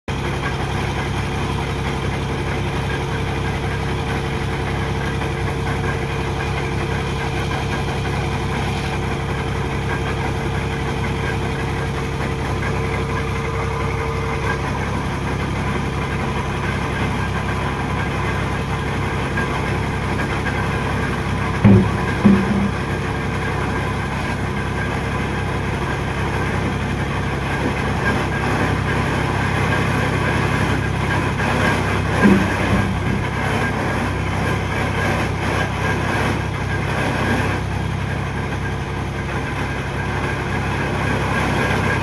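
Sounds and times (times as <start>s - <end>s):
piling machine engine running: 0.1s - 42.0s.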